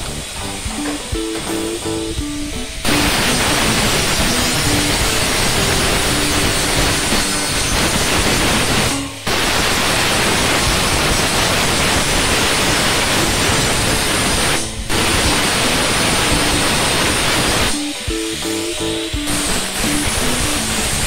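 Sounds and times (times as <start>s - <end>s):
angle grinder grinding steel: 2.4s - 21.0s.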